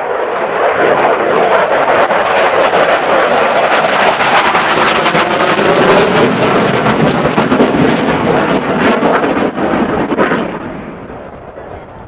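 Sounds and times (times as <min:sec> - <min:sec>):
jet roar with crackle: 0:00.0 - 0:12.0.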